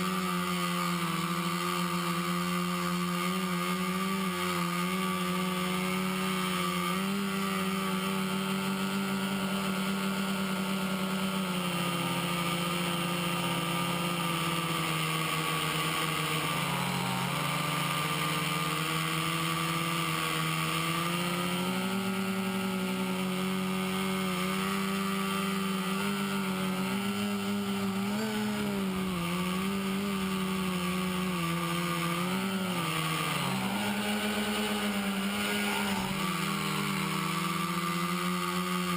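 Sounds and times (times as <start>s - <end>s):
quadcopter motors buzzing: 0.0s - 38.9s.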